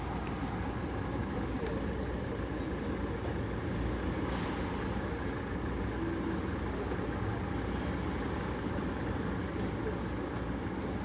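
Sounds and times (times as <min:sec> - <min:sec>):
car engines rumbling: 0:00.0 - 0:11.0
faint street noise: 0:00.0 - 0:11.0.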